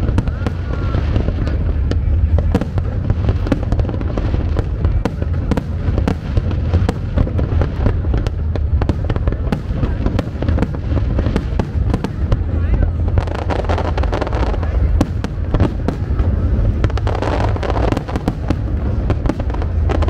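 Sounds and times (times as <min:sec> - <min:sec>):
fireworks bangs and crackles: 0:00.0 - 0:20.0
low rumble: 0:00.0 - 0:20.0.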